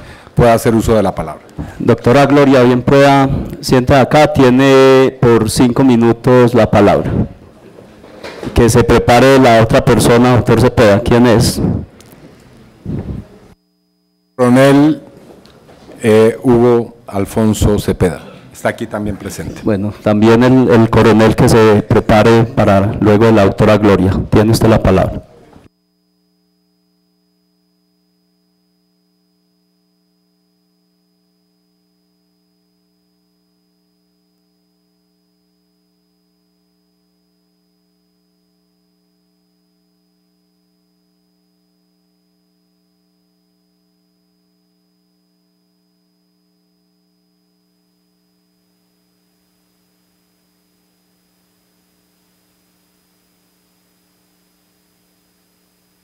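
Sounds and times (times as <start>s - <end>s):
faint electrical hum: 0.0s - 56.0s.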